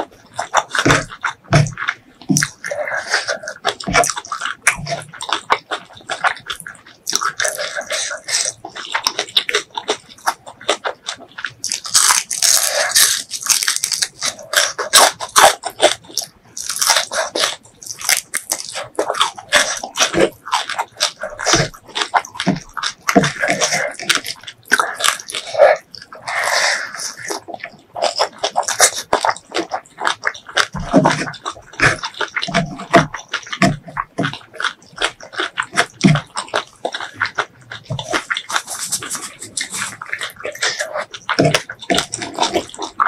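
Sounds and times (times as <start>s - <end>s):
close chewing with mouth clicks: 0.0s - 43.0s.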